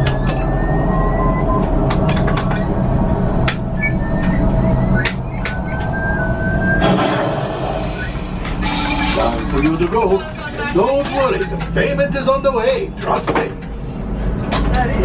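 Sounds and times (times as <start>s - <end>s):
electronic beeps and clicks: 0.0s - 13.3s
rising sci-fi tones: 0.3s - 13.0s.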